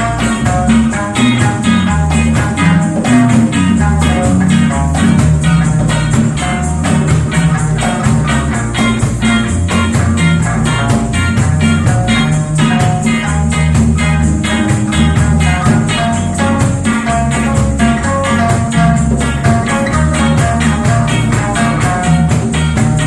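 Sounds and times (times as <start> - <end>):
live reggae band: 0.0 - 23.0.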